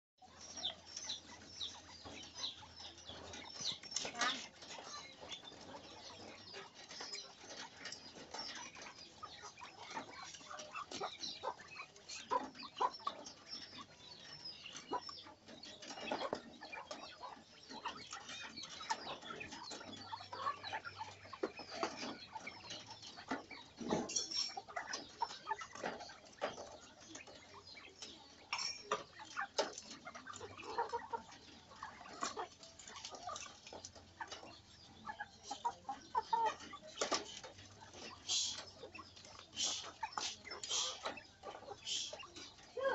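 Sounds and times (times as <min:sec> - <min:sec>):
quail clucking and chirping: 0:00.2 - 0:42.9.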